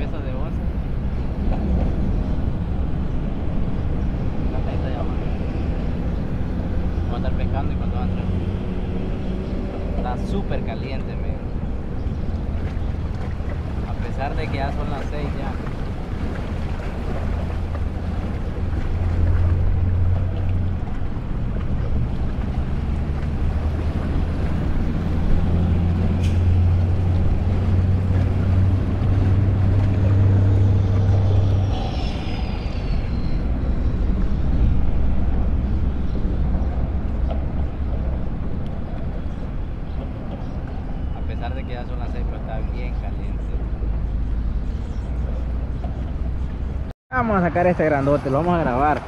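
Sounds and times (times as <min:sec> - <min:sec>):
low engine drone: 0:00.0 - 0:46.9
wind on microphone: 0:00.0 - 0:46.9.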